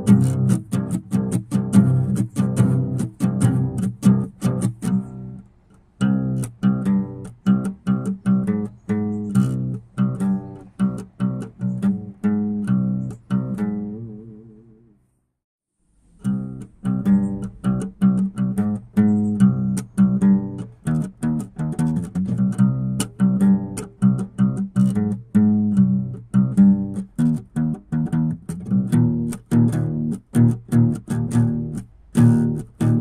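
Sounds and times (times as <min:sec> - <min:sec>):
plucked guitar music: 0:00.0 - 0:15.0, 0:16.2 - 0:33.0.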